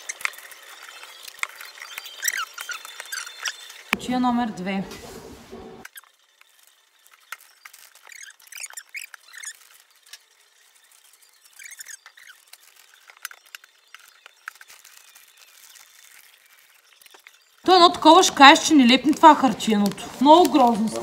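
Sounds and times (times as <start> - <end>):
short squeaks: 0.0 - 4.2, 7.2 - 21.0
wrapping paper rustling: 0.0 - 21.0.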